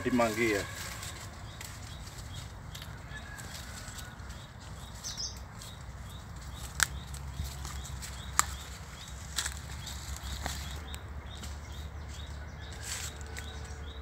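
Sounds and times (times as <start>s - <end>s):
footsteps on dry leaves: 0.0s - 13.9s.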